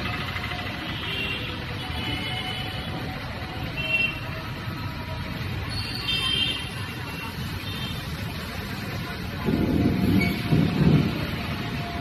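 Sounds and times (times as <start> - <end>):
traffic on wet street: 0.0 - 12.0.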